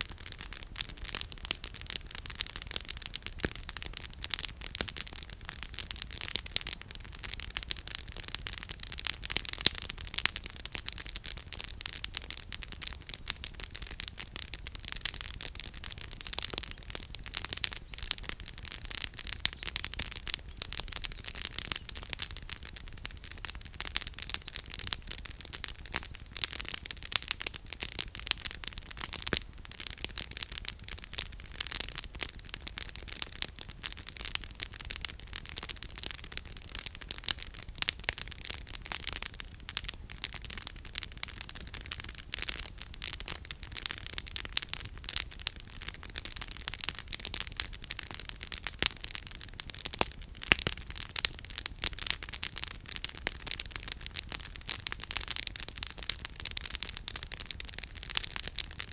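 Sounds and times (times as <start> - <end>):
campfire crackling and popping: 0.0 - 58.9
low fire rumble: 0.0 - 58.9.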